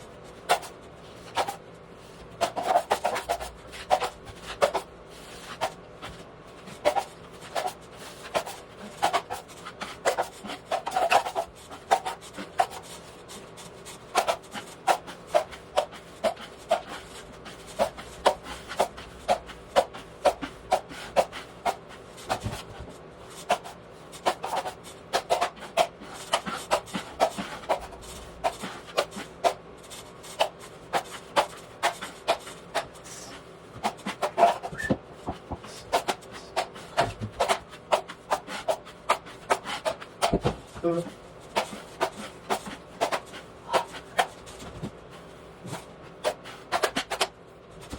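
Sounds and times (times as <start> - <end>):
hand rubbing drywall patch: 0.2 - 47.9.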